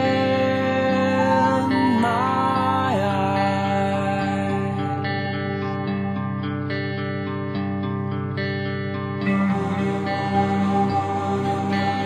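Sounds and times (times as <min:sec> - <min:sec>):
slow guitar-led song: 0:00.0 - 0:12.0.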